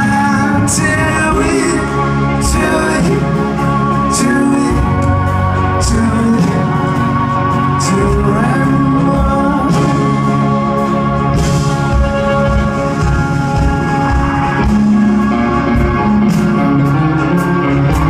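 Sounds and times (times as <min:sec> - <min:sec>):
acoustic guitar: 0:00.0 - 0:18.0
bass: 0:00.0 - 0:18.0
drums: 0:00.0 - 0:18.0.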